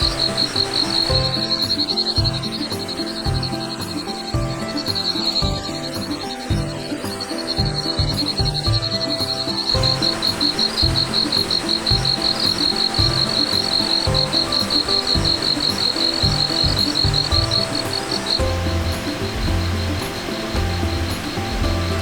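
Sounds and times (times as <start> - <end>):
background music: 0.0 - 22.0
insect chirping: 0.0 - 22.0.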